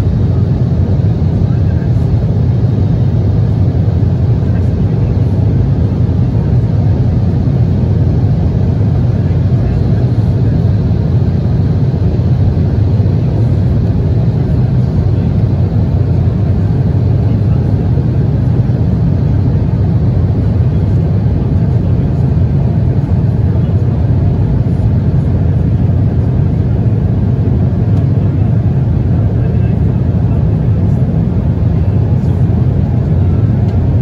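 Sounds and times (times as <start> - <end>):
airliner cabin engine drone: 0.0 - 34.0.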